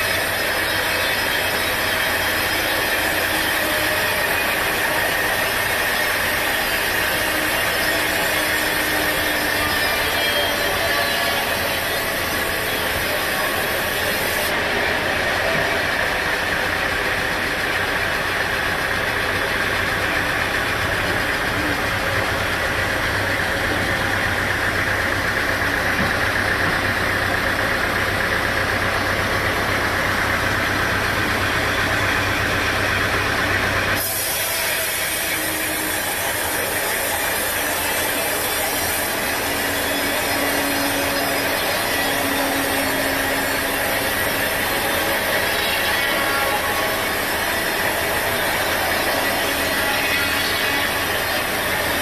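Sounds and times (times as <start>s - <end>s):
machine noise with faint tone: 0.0s - 52.0s
saw cutting noise: 0.0s - 52.0s
sawmill engine hum: 0.0s - 52.0s.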